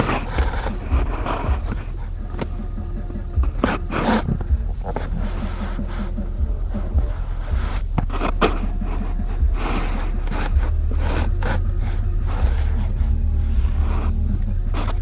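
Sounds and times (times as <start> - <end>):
low rumble inside vehicle cabin: 0.0 - 15.0
seatbelt webbing scraping: 0.0 - 15.0.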